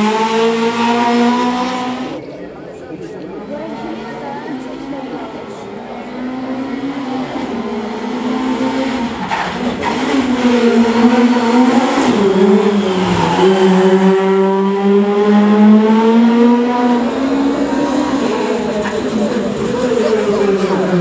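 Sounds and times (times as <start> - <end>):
rally car engine at high revs: 0.0 - 2.2, 3.4 - 21.0.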